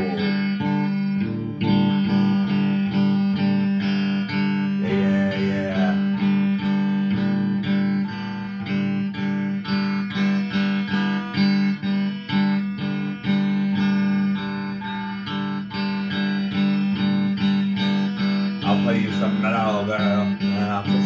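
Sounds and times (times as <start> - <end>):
electric guitar strumming: 0.0 - 21.0.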